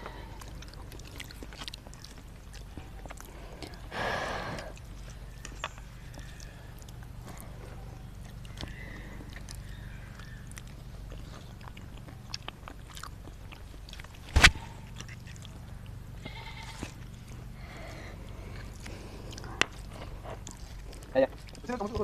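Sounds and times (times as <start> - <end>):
soft chewing: 0.0 - 22.0
steady low hum: 0.0 - 22.0.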